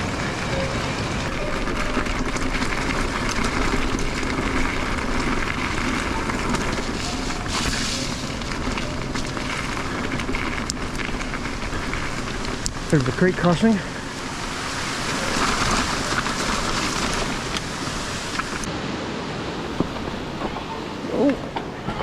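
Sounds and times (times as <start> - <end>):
bike rattles and clicks: 0.0 - 18.7, 19.6 - 22.0
tyres on gravel: 0.0 - 22.0.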